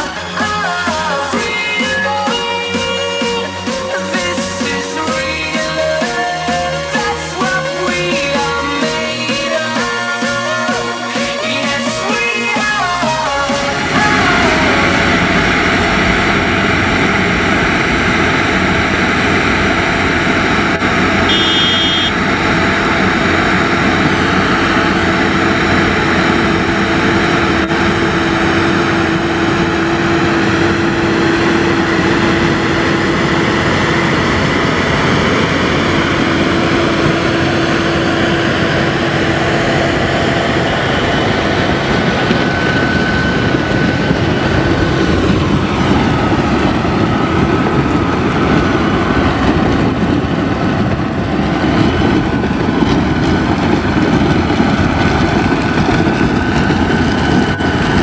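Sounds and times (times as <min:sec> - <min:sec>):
steady whine: 0:00.0 - 0:58.0
tractor engine under load: 0:00.0 - 0:58.0.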